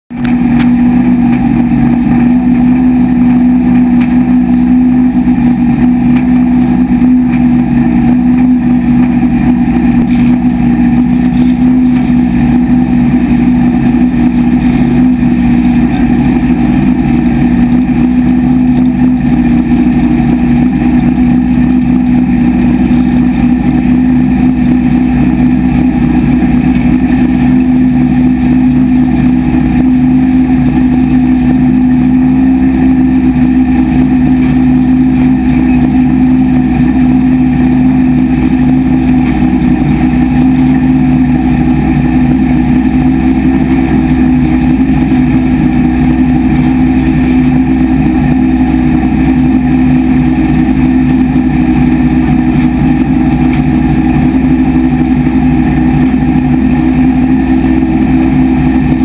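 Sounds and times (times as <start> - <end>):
race car engine idling: 0.1 - 59.0.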